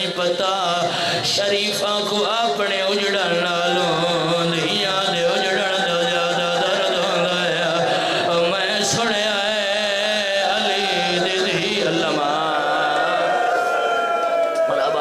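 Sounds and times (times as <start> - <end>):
man chanting into a microphone: 0.0 - 13.4.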